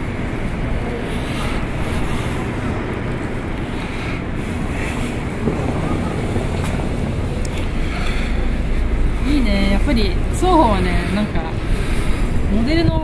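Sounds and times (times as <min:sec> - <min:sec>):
city street noise: 0:00.0 - 0:13.0
faint voices: 0:00.0 - 0:13.0
wind rumble on microphone: 0:00.0 - 0:13.0.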